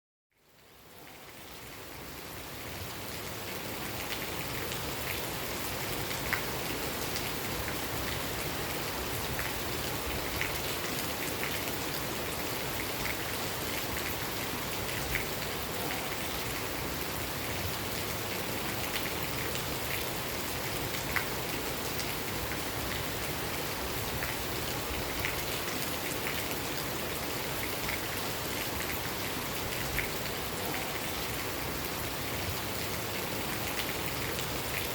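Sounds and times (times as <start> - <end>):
steady rain falling: 0.3 - 34.9.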